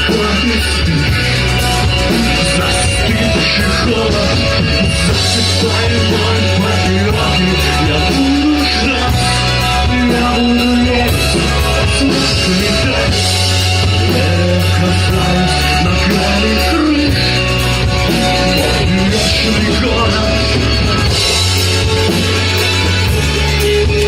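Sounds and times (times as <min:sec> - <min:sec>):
rock band playing: 0:00.0 - 0:24.0
steady bass notes: 0:00.0 - 0:24.0.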